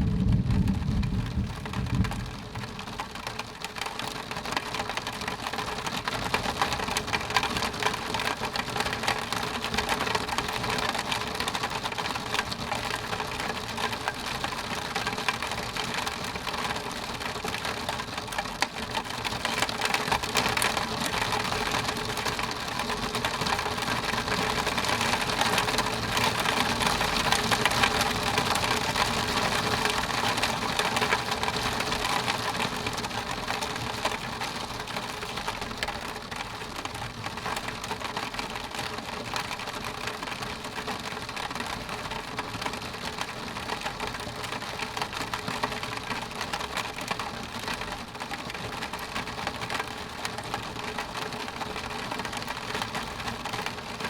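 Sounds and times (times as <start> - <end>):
rain pattering on window glass: 0.0 - 54.0.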